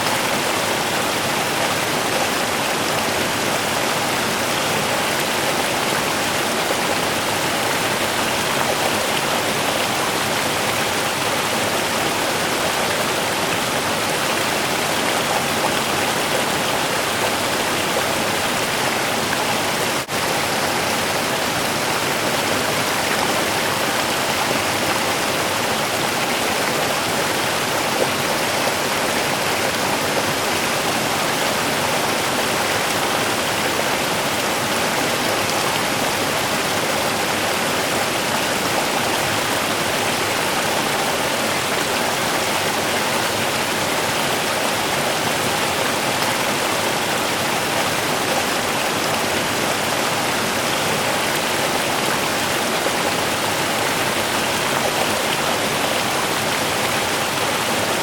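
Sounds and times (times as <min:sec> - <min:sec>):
river running over stones: 0:00.0 - 0:58.0.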